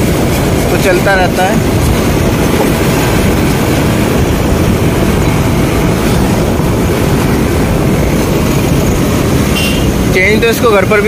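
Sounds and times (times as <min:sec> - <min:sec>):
diesel tractor engine rumble: 0:00.0 - 0:11.0
wind noise: 0:00.0 - 0:11.0.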